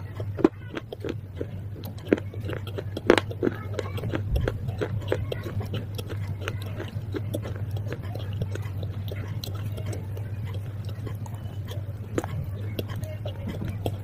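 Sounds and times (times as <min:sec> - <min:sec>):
crunchy chewing: 0:00.0 - 0:14.0
steady low hum: 0:00.0 - 0:14.0.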